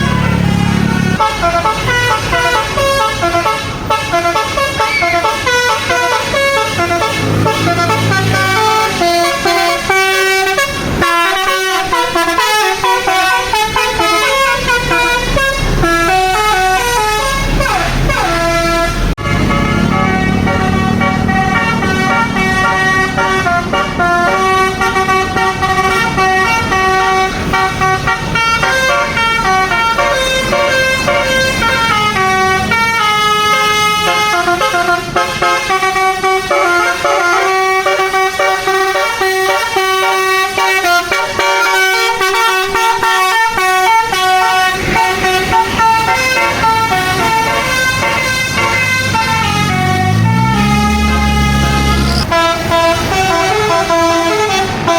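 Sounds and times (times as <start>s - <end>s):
musical bus air horn tune: 0.0s - 54.9s.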